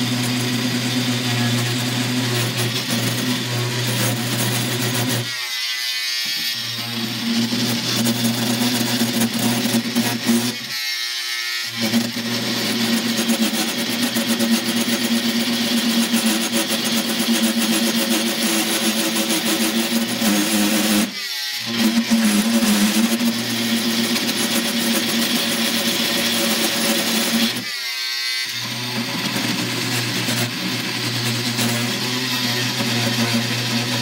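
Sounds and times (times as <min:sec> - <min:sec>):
angle grinder cutting wood: 0:00.0 - 0:34.0.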